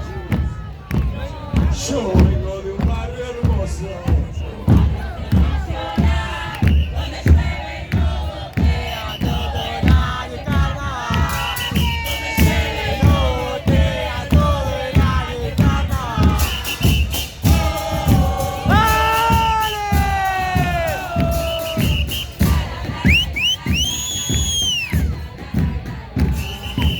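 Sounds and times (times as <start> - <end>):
bass drum thumps: 0.0 - 26.9
chorus of voices singing: 0.0 - 26.9.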